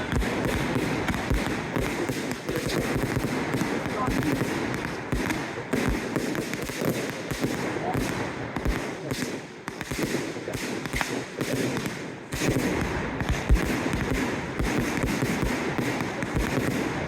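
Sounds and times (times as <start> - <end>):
fireworks bangs and thuds: 0.0 - 17.0.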